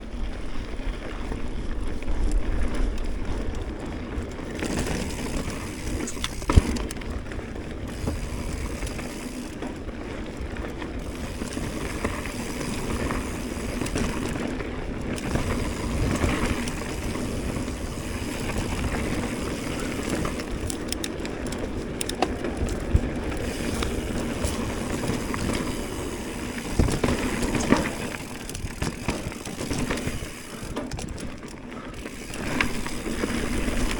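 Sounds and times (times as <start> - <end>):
bike rattling over bumps: 0.0 - 33.9
tyres rumbling on rough ground: 0.0 - 33.9.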